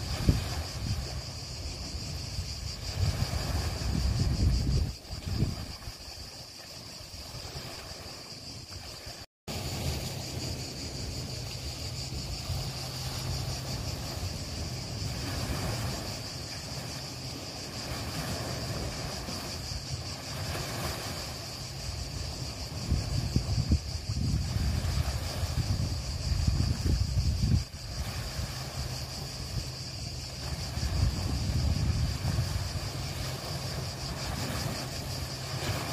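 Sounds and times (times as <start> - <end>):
wind buffeting microphone: 0.0 - 6.3, 9.5 - 35.9.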